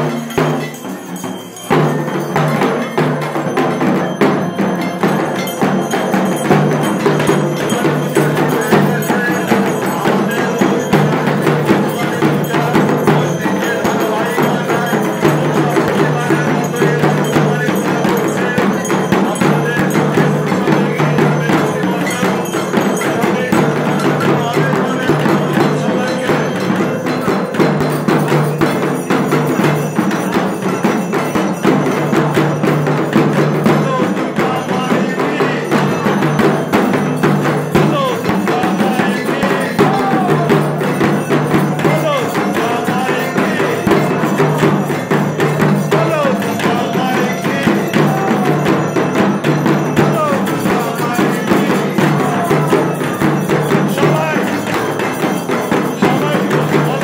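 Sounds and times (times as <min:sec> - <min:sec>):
clanging metal percussion: 0:00.0 - 0:57.0
drumming: 0:00.0 - 0:57.0.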